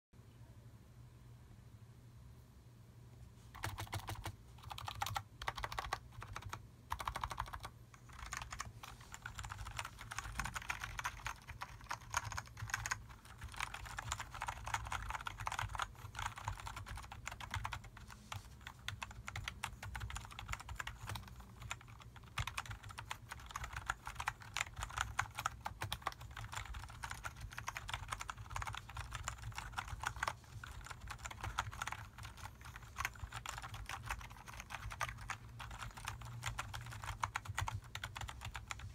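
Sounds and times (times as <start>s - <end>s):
keyboard typing clatter: 3.6s - 38.9s.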